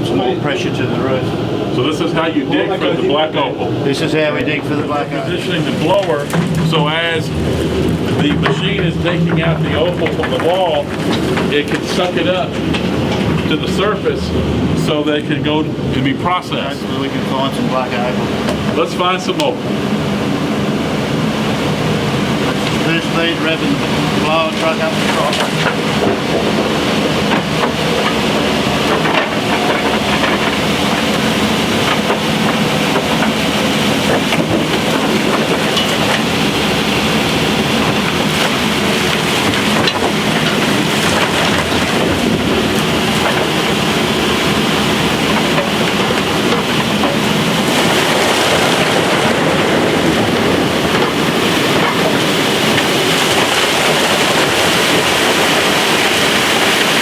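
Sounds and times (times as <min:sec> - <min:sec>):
engine hum: 0:00.0 - 0:57.0
vacuum blower rushing roar: 0:00.0 - 0:57.0.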